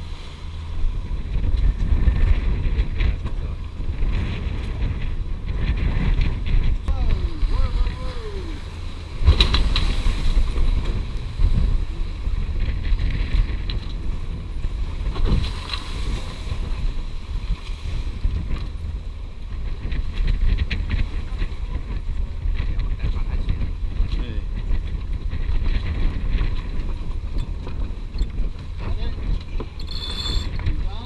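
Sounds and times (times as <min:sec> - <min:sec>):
water rushing past hulls: 0:00.0 - 0:31.0
wind buffeting microphone: 0:00.0 - 0:31.0.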